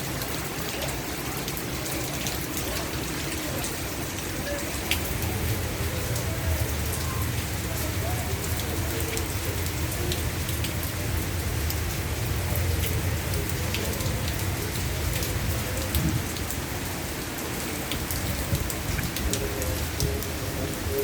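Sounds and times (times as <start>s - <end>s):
raindrops ticking on surfaces: 0.0s - 21.0s
steady rain falling: 0.0s - 21.0s.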